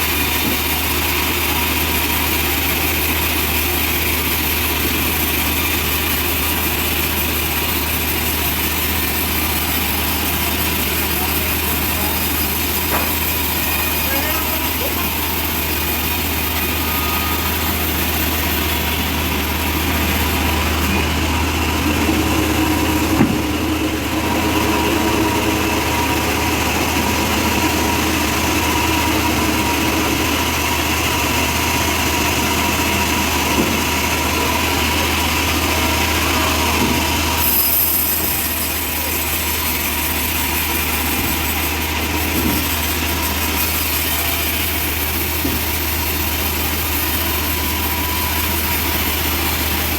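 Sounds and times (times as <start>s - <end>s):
band sawmill engine running: 0.0s - 49.9s.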